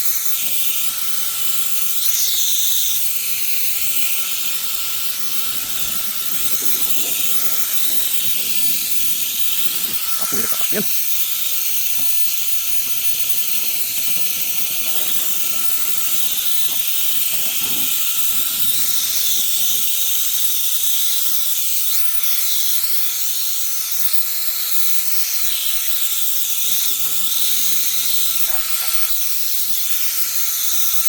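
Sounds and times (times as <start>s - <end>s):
fan blowing air with motor whine: 0.0s - 31.0s.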